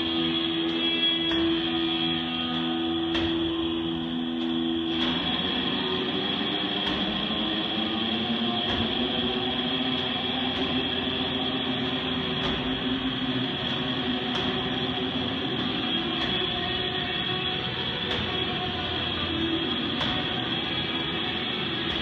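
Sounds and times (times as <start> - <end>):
loud steady droning noise: 0.0 - 22.0.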